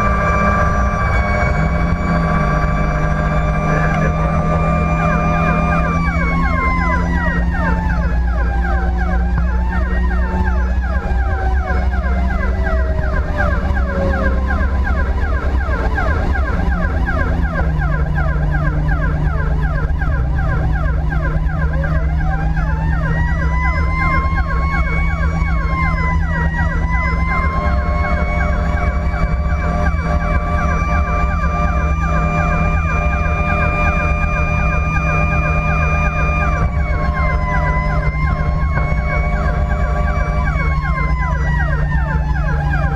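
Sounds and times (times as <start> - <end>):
engine hum: 0.0 - 42.9
wailing siren: 0.0 - 42.9
yelp siren: 0.0 - 42.9.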